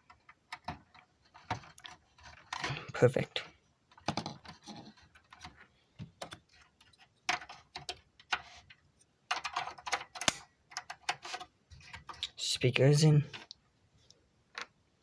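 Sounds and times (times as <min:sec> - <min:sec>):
small clicks and scrapes of parts: 0:00.0 - 0:12.4, 0:13.3 - 0:14.8.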